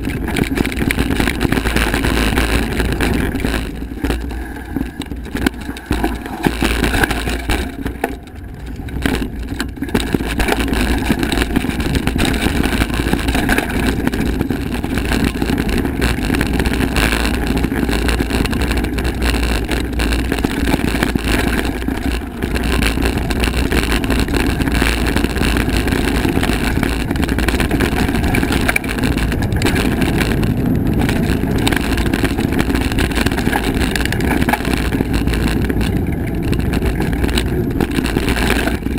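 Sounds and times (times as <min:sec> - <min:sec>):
bike tyres rumbling on dirt: 0:00.0 - 0:38.9
wind rushing on microphone: 0:00.0 - 0:38.9.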